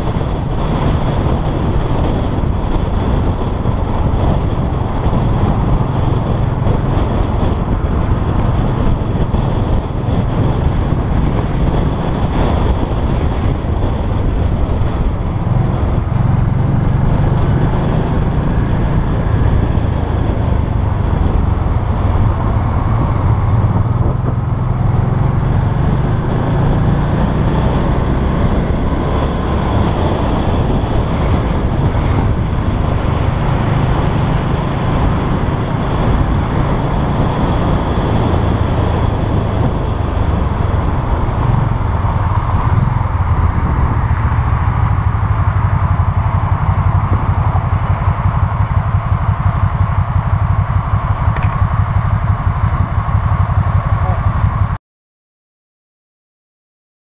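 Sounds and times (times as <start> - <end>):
motorcycle engine running: 0.0 - 54.8
wind buffeting microphone: 0.0 - 54.8.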